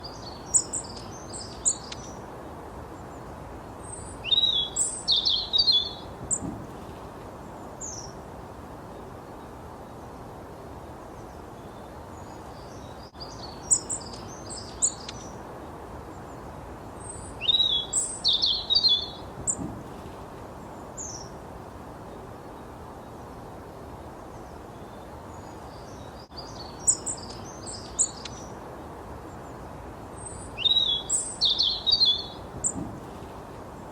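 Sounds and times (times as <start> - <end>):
songbird chirping and trilling: 0.0 - 8.2, 11.1 - 20.1, 20.7 - 21.4, 24.3 - 33.9
steady background hiss: 0.0 - 33.9.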